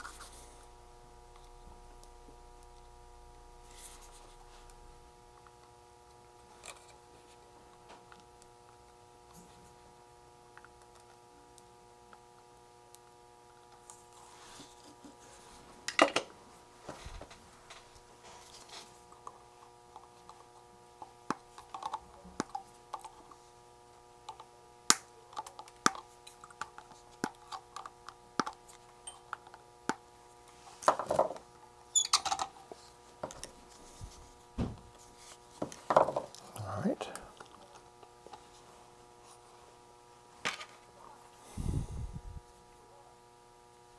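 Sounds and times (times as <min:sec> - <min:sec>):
faint multi-tone hum: 0:00.0 - 0:43.9.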